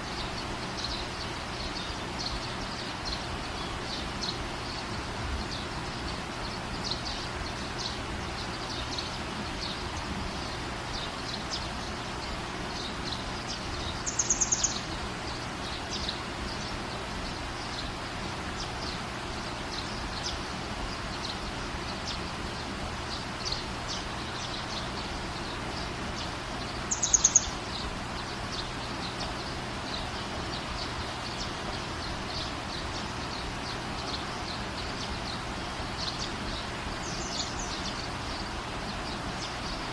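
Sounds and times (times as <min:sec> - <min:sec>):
birds chirping: 0:00.0 - 0:39.9
rain hiss: 0:00.0 - 0:39.9.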